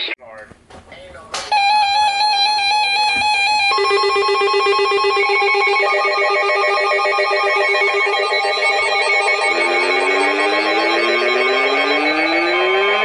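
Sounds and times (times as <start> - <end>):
fast warbling alert tone: 1.5 - 13.0.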